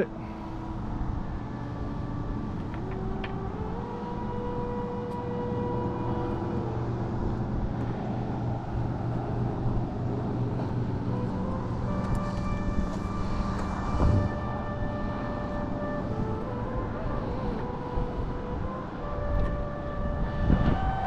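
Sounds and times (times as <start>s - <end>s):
distant traffic rush: 0.0s - 21.0s
vehicle engine hum: 0.0s - 21.0s.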